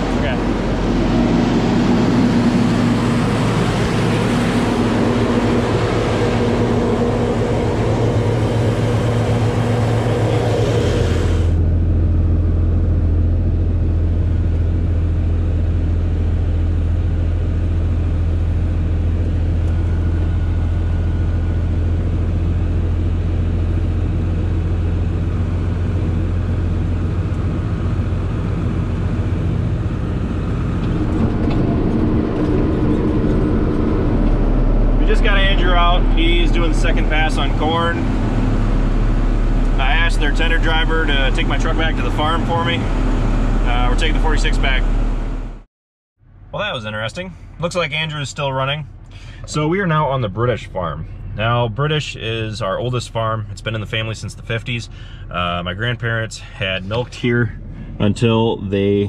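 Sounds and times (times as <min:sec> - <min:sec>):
deep engine drone: 0:00.0 - 0:59.0
diesel engine running: 0:00.0 - 0:59.0.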